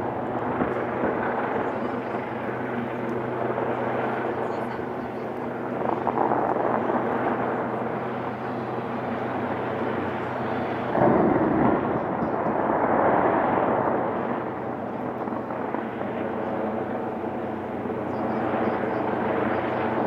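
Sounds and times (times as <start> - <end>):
distant fireworks bursting and crackling: 0.0 - 20.0
steady low hum: 0.0 - 20.0.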